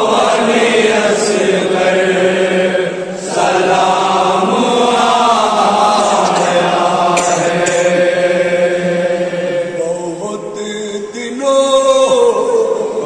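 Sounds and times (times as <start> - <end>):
lead voice singing: 0.0 - 13.0
men chanting a lament in unison: 0.0 - 13.0.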